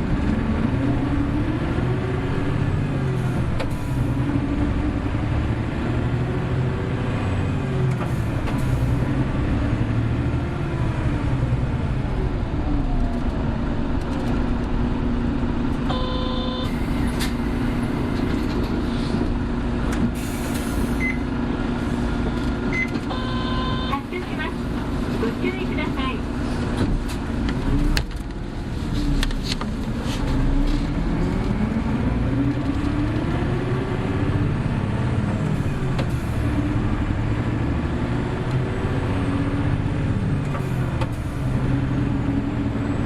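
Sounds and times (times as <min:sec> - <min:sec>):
bus engine running: 0:00.0 - 0:43.0.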